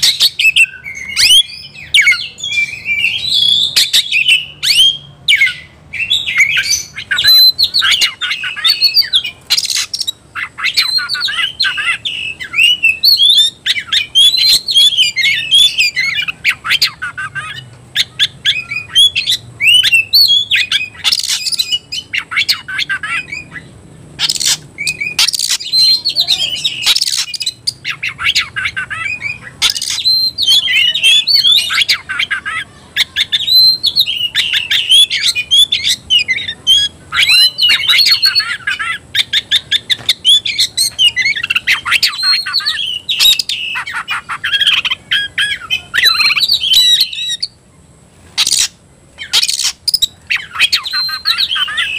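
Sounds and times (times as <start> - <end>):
songbird whistling and chattering: 0.0 - 47.6, 48.4 - 51.9.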